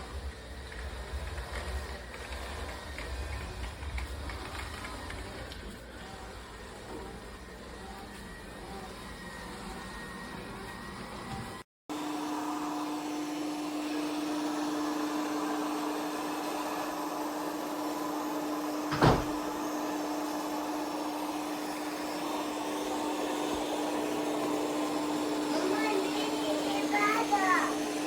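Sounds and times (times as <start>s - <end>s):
robot vacuum motor hum: 0.0s - 28.0s.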